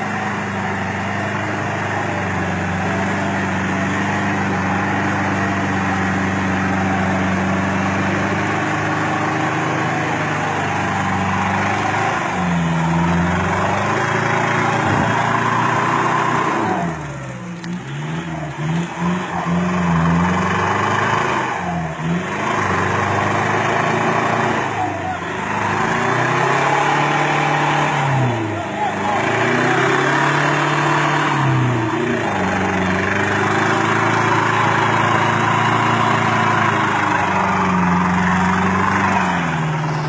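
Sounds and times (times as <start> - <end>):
pickup truck engine revving: 0.0 - 40.0.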